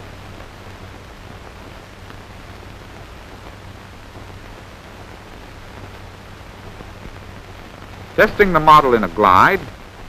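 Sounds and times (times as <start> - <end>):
film soundtrack hiss: 0.0 - 10.0
low mains hum: 0.0 - 10.0.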